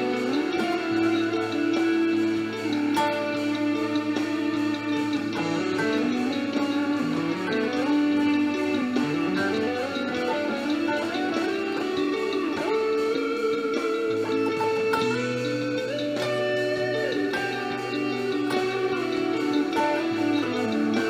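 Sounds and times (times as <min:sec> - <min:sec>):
electric guitar lead melody: 0:00.0 - 0:21.0.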